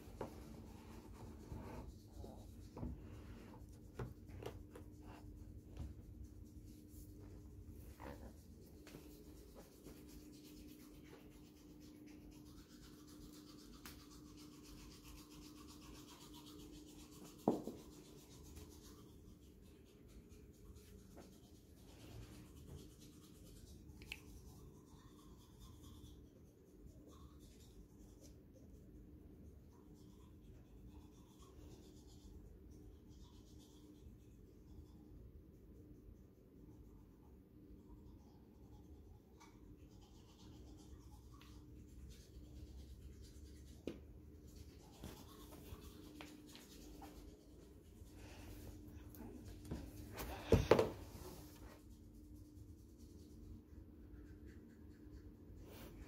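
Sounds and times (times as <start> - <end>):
toothbrush scrubbing teeth: 0.0 - 50.2, 51.1 - 56.0.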